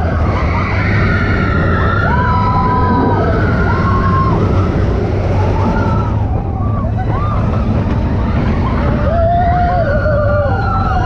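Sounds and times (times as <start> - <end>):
riders screaming: 0.0 - 11.0
roller coaster rumbling on track: 0.0 - 11.0.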